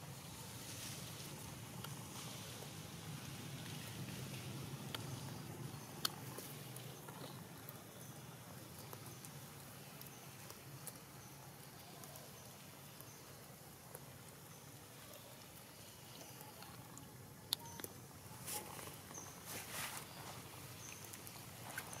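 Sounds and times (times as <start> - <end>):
faint rustling in leaves: 0.0 - 22.0.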